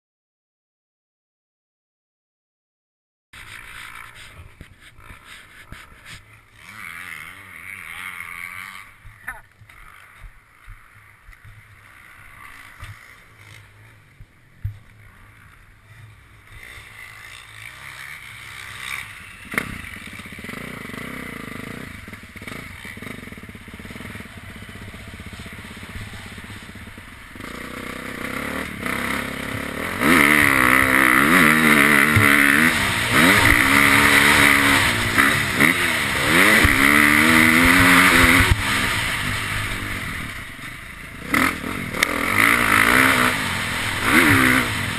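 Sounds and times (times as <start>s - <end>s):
motocross bike engine revving: 3.4s - 44.9s.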